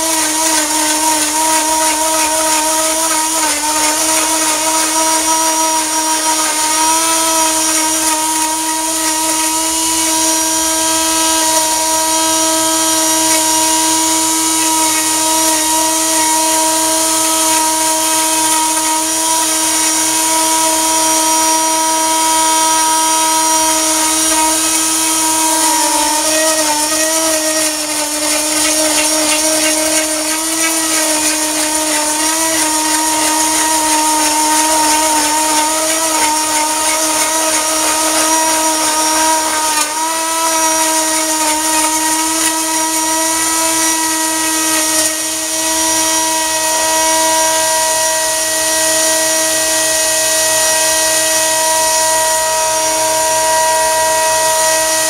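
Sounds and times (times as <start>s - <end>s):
wood router high whine: 0.0s - 55.0s.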